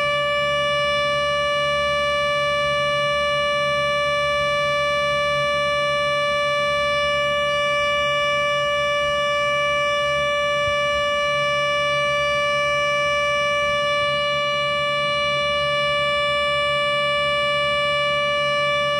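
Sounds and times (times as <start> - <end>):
synthesized siren steady pitch: 0.0 - 18.9.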